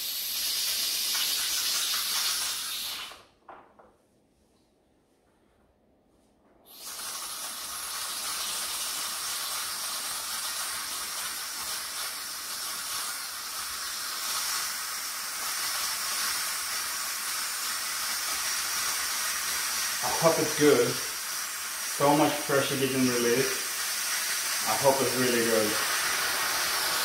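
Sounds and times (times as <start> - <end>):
pressure cooker venting steam: 0.0 - 3.2, 6.7 - 27.0.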